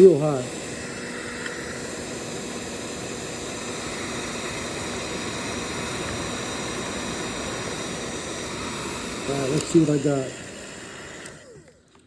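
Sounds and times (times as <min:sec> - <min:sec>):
heat gun blowing: 0:00.0 - 0:11.8.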